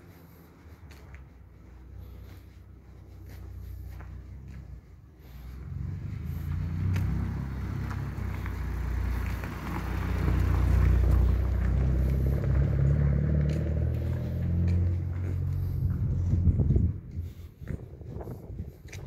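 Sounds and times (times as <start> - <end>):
passing vehicle rumble: 0.0 - 19.0.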